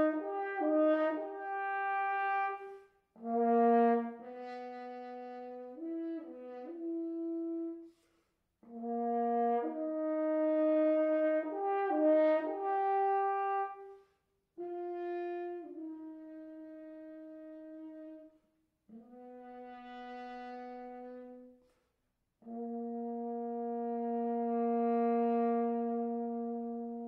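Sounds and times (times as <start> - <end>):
french horn playing long notes: 0.0 - 7.9, 8.7 - 13.9, 14.6 - 18.3, 18.9 - 21.5, 22.4 - 27.0.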